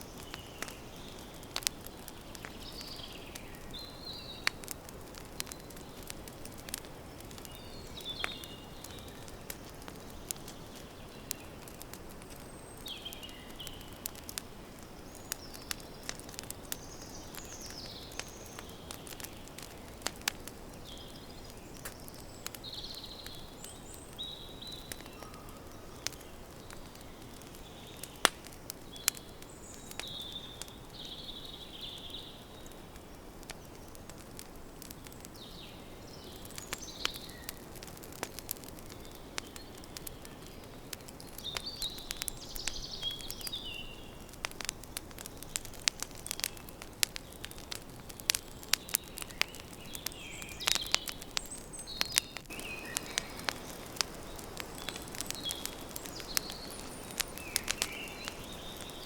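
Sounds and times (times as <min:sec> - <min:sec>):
campfire crackling and popping: 0:00.0 - 0:59.0
birds chirping: 0:00.1 - 0:59.0.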